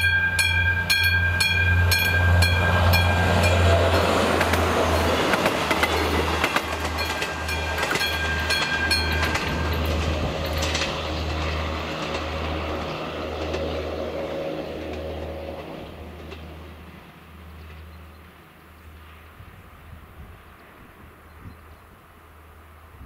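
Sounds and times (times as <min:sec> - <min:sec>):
diesel train rumble: 0:00.0 - 0:23.0.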